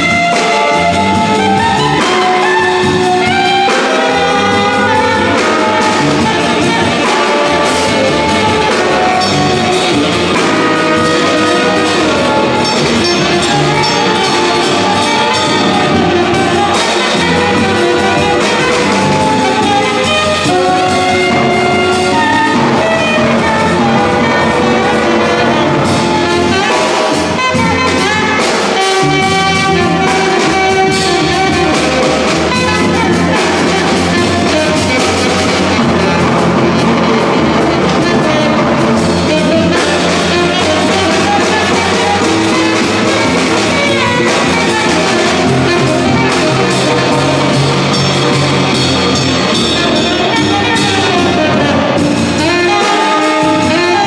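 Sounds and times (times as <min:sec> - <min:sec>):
live jazz band playing: 0:00.0 - 0:54.0.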